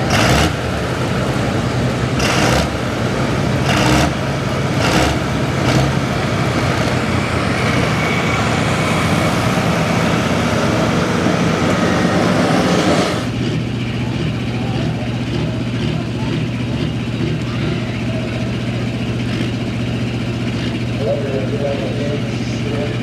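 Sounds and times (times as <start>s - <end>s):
diesel tractor engine at full throttle: 0.0s - 23.0s.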